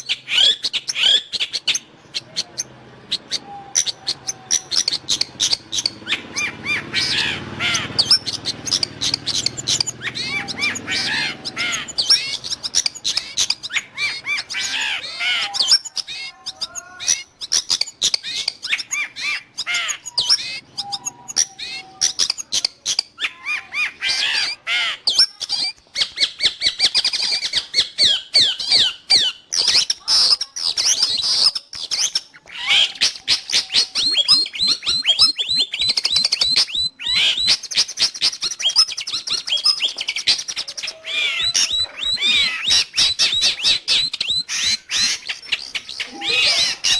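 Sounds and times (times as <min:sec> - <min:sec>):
bird chattering song: 0:00.0 - 0:46.9.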